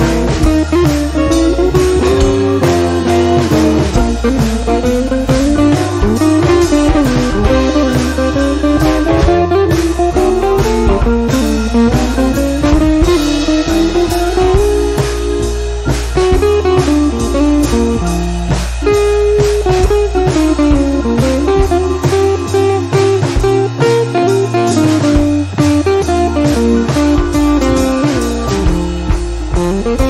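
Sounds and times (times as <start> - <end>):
instrumental music with beat: 0.0 - 30.0.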